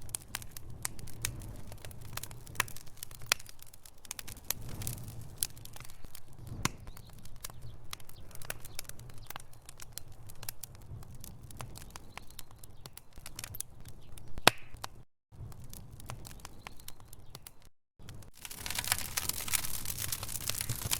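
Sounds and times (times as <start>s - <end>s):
log fire crackling: 0.0s - 20.9s
low rumble of flame: 0.0s - 20.9s.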